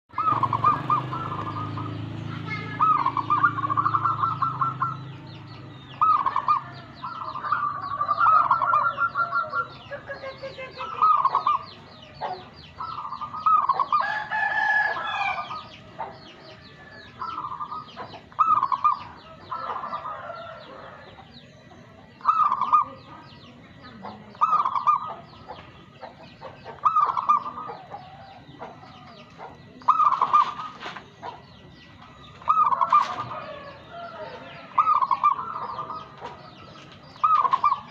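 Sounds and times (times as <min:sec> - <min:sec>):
bird call: 0:00.1 - 0:37.9
dove cooing: 0:00.1 - 0:37.9.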